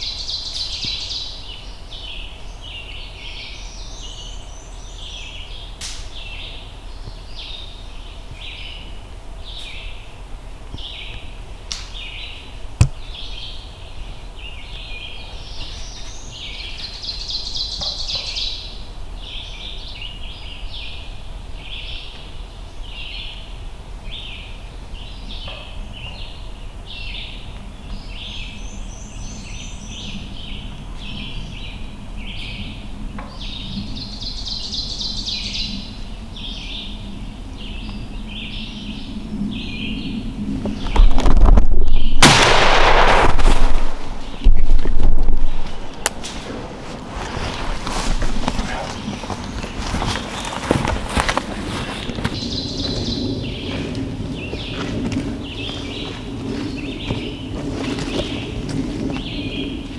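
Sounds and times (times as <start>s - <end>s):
songbirds singing: 0.0s - 43.0s, 43.9s - 59.9s.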